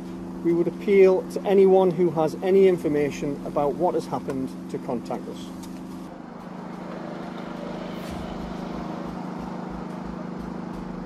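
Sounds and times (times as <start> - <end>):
diesel engines idling: 0.0 - 11.0.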